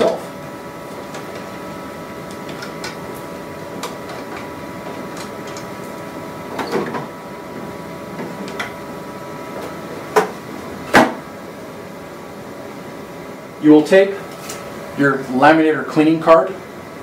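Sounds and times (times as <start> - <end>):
card printer humming: 0.0 - 17.0.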